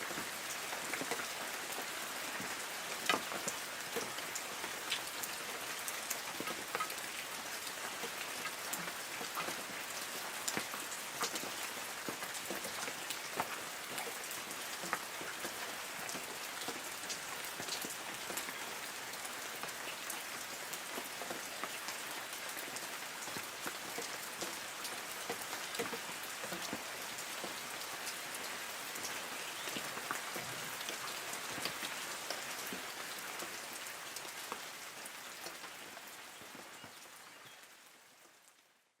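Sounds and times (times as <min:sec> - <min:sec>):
light rain hissing: 0:00.0 - 0:38.9
raindrops ticking on leaves: 0:00.0 - 0:38.9.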